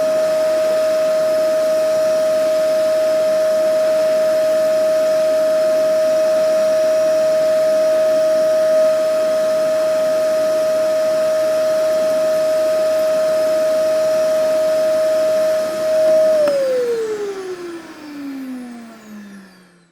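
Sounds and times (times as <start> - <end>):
vacuum cleaner motor whining: 0.0 - 19.9.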